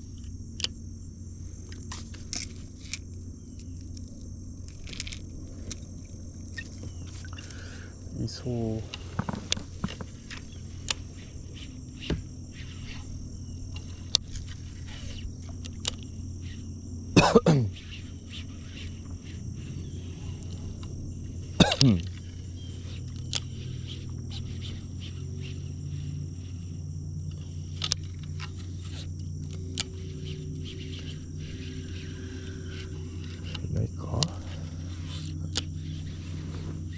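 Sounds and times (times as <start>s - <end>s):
insect chorus: 0.0s - 36.9s
small clicks: 0.1s - 0.8s, 1.6s - 8.1s, 8.7s - 16.8s, 17.7s - 36.9s.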